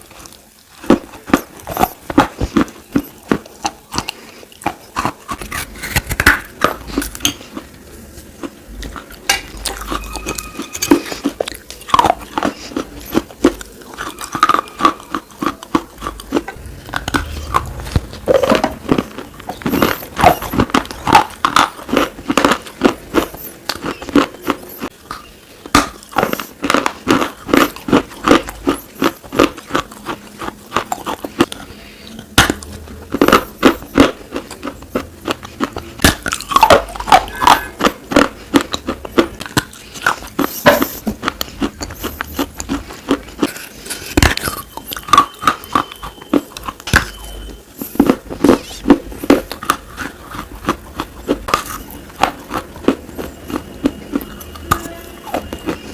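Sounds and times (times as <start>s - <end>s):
person chewing with sharp crunches: 0.0s - 55.9s.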